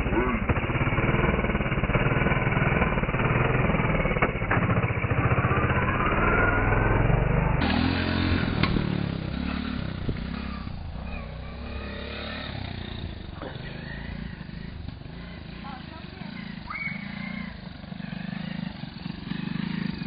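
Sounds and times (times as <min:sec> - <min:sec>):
three-wheeler engine running: 0:00.0 - 0:20.0.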